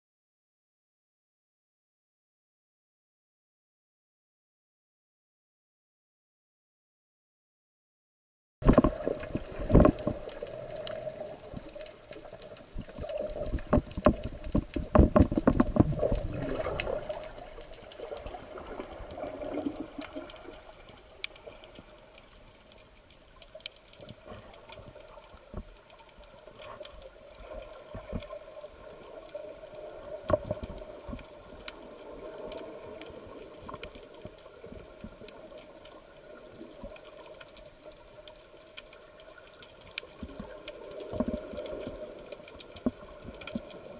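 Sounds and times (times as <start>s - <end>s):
crackling clicks: 8.6s - 43.9s
rushing water: 8.6s - 43.9s.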